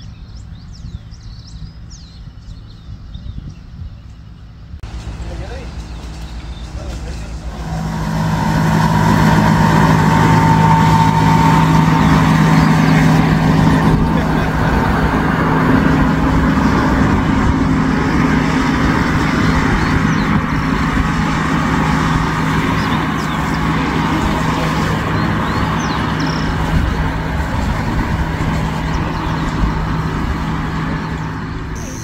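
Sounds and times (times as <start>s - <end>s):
engine droning: 0.0s - 32.0s
dense rushing noise: 4.8s - 32.0s.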